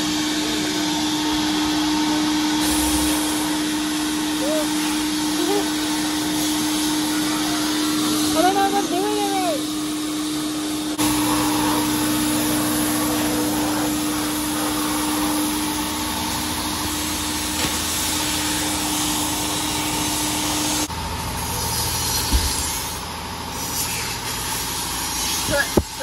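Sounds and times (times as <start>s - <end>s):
sandblasting air rush: 0.0s - 26.0s
steady machine hum: 0.0s - 26.0s.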